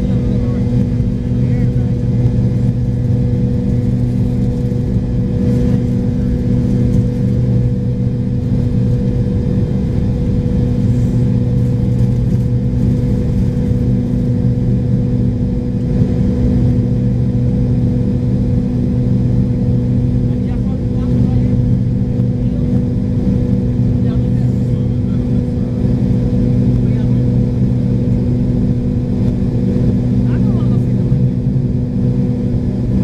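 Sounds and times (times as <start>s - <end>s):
airplane cabin engine drone: 0.0s - 33.0s.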